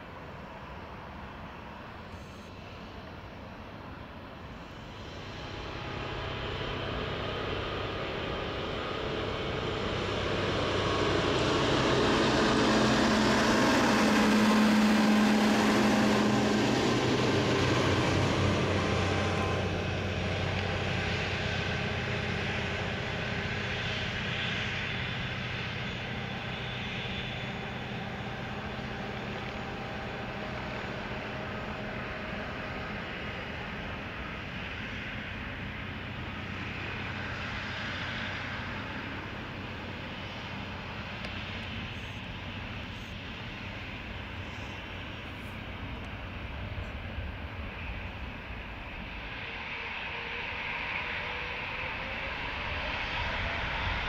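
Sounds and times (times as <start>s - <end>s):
jet engine rumble and whine: 0.0s - 54.0s.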